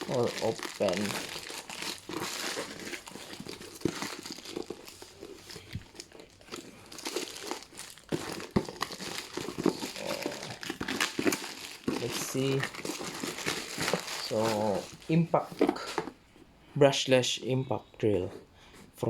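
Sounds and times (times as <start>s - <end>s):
packaging crinkling and rustling: 0.0s - 16.2s.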